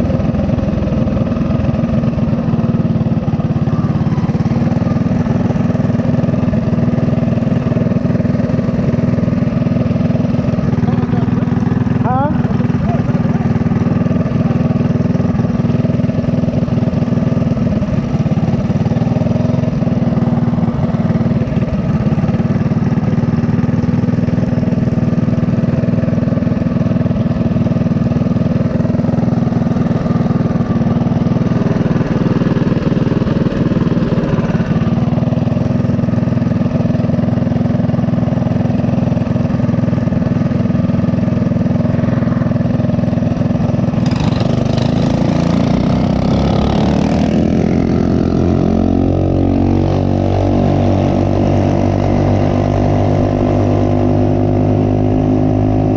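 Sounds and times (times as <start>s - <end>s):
small motorcycle engine running: 0.0s - 55.9s.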